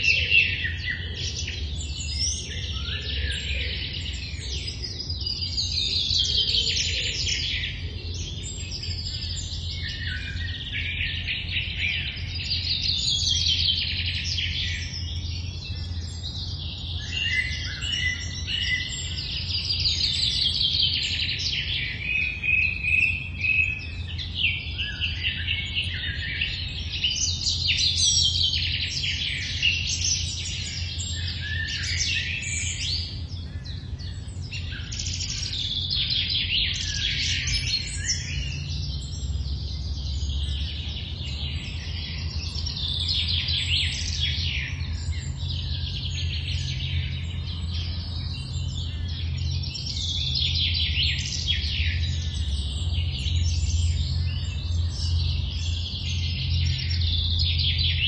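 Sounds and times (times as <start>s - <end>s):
songbirds singing: 0.0s - 58.0s
steady low hum: 0.0s - 58.0s.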